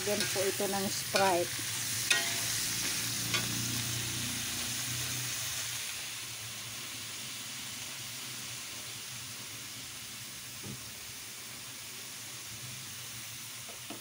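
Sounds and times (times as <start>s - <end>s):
shrimp sizzling in a wok: 0.0s - 14.0s.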